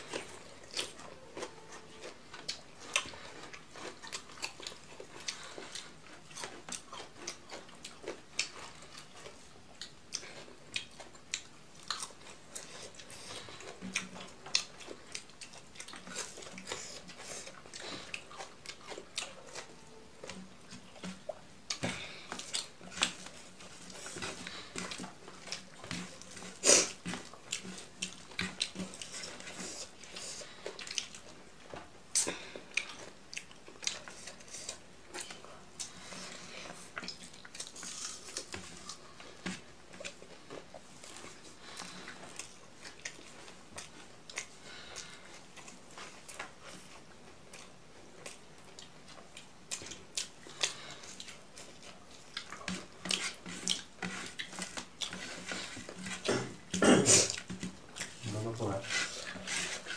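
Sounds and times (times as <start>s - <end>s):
person chewing and biting: 0.0s - 59.9s.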